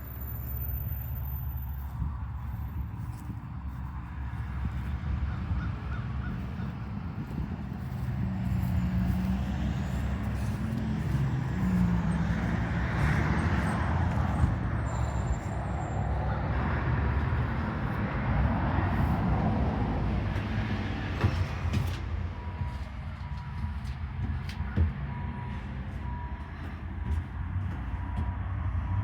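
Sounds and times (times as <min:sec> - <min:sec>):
low traffic rumble: 0:00.0 - 0:29.0.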